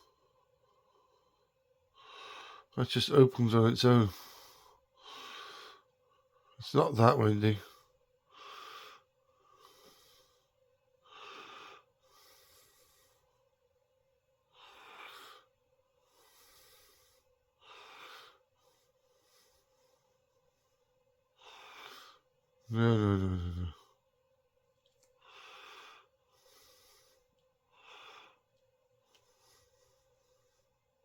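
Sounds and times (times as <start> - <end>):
person breathing quietly: 0.0 - 2.8, 3.9 - 6.6, 7.5 - 13.6, 14.5 - 24.0, 25.2 - 31.0
faint steady hum: 0.0 - 31.0.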